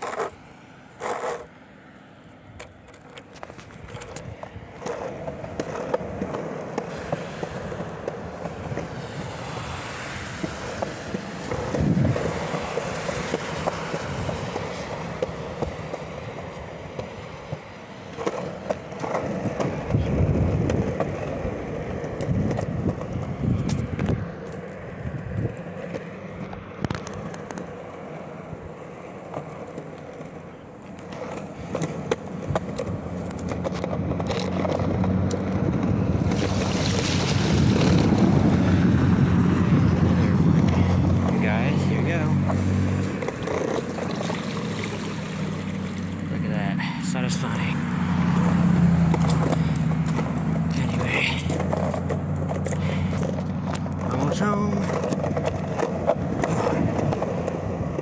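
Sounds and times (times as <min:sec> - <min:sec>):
wheels clacking over joints: 0:00.0 - 0:01.5, 0:02.5 - 0:58.0
longboard wheels rolling on concrete: 0:00.0 - 0:58.0.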